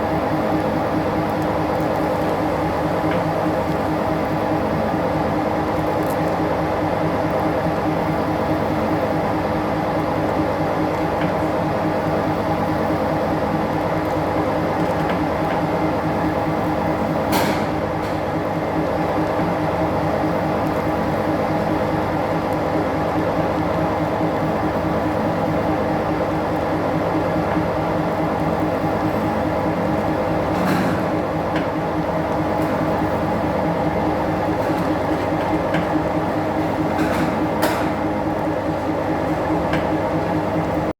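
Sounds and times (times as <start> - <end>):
workshop machinery humming: 0.0 - 40.9.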